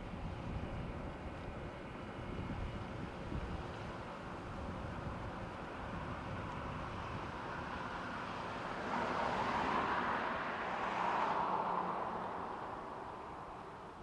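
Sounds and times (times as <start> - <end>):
boat engine rumble: 0.0 - 14.0
wind: 0.0 - 14.0.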